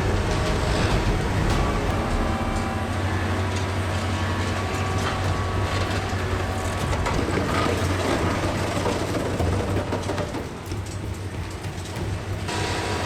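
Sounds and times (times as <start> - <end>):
heavy machine engine rumbling: 0.0 - 13.0.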